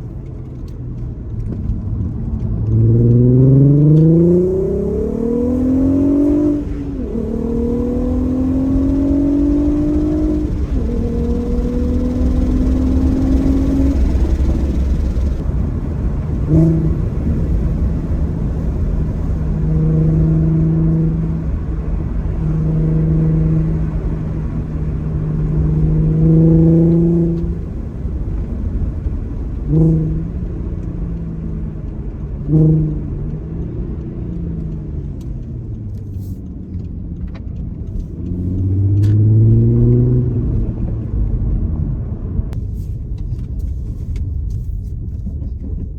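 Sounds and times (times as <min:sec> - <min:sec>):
car engine: 0:00.0 - 0:45.9
road and wind rumble: 0:00.0 - 0:45.9.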